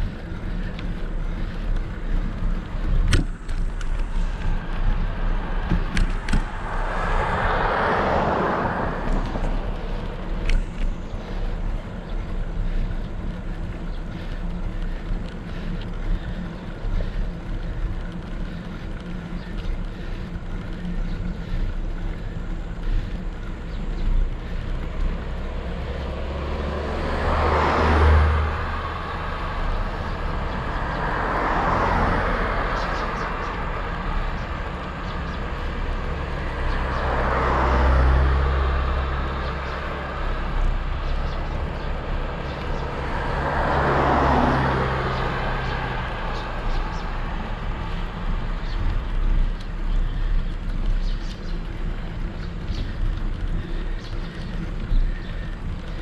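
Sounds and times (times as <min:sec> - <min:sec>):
motor vehicles passing: 0:00.0 - 0:56.0
wind rumbling on microphone: 0:00.0 - 0:56.0.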